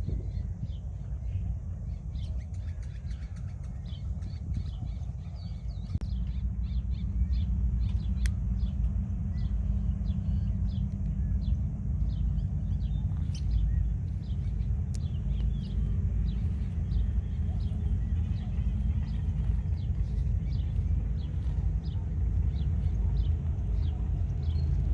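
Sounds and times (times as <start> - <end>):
steady low rumble: 0.0 - 24.9.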